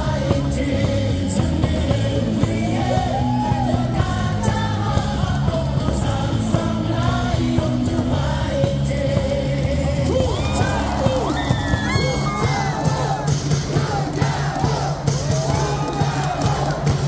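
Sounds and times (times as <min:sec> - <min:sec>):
crowd singing a cheer song: 0:00.0 - 0:17.0
loud amplified music with beat: 0:00.0 - 0:17.0.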